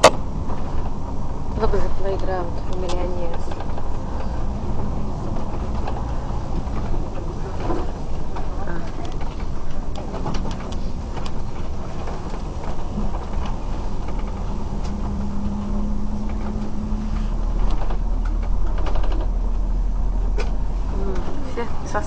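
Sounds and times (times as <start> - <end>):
hum: 0.0 - 22.0
vehicle engine rumble: 0.0 - 22.0.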